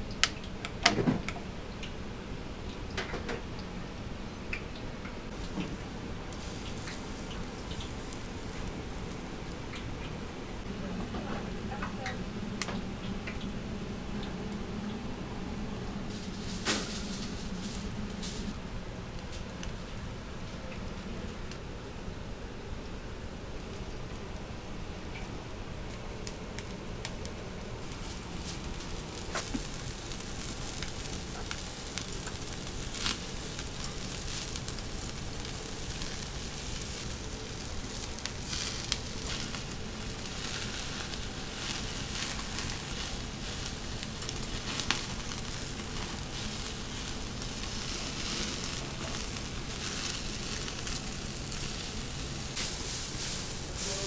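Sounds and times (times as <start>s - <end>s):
chicken skewers sizzling: 5.3s - 20.7s, 23.4s - 54.0s.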